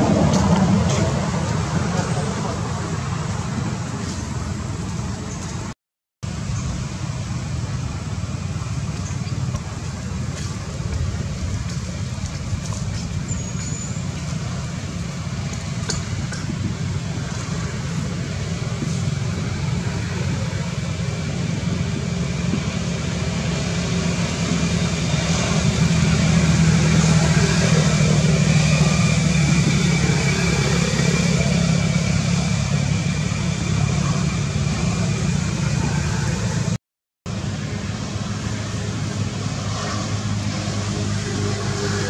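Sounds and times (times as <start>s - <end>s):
vehicle engine humming: 0.0s - 42.0s.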